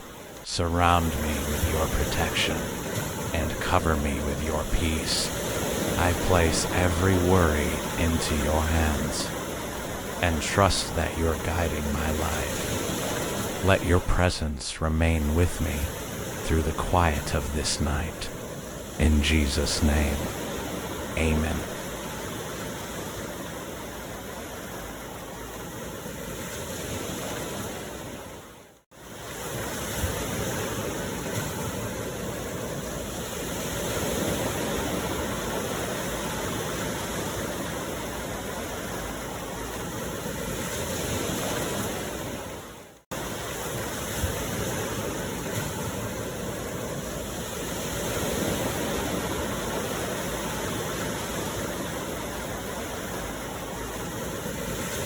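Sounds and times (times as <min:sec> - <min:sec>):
ocean waves washing on shore: 0:00.0 - 0:55.0.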